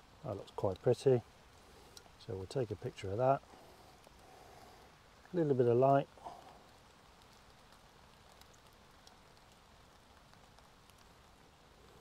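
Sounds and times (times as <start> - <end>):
raindrops ticking on leaves: 0.0 - 12.0.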